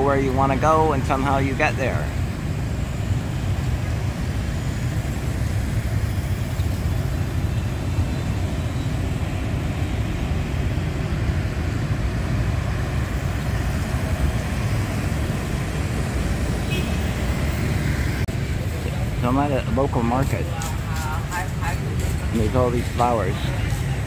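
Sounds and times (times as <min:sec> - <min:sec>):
motorbikes and cars passing: 0:00.0 - 0:24.0.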